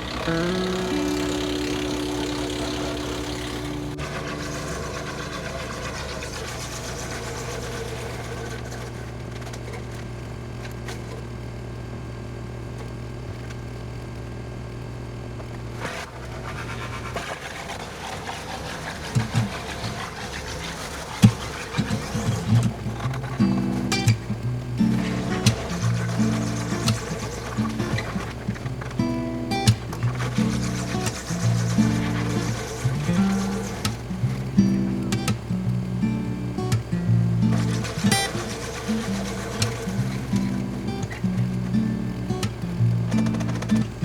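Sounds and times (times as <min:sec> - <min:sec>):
woodchipper engine running: 0:00.0 - 0:11.2, 0:15.4 - 0:44.0.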